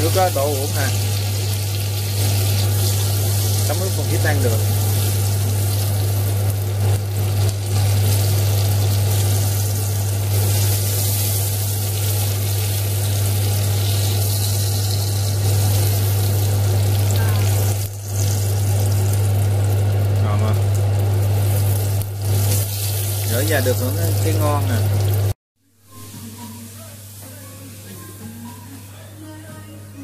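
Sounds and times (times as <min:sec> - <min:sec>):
shrimp sizzling in hot oil: 0:00.0 - 0:28.6.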